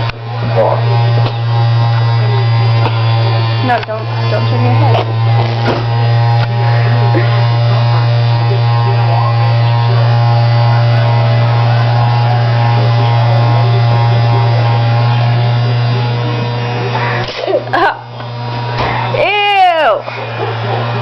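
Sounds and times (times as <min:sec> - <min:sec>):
electric massager buzzing: 0:00.0 - 0:21.0.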